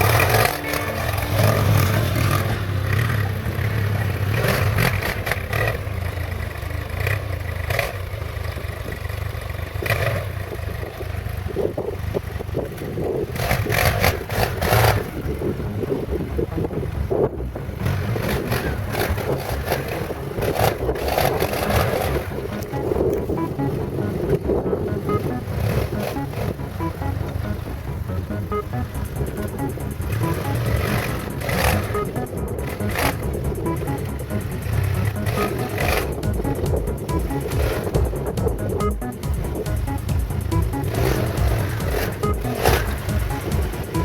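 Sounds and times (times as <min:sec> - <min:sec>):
quad bike engine running: 0:00.0 - 0:44.0.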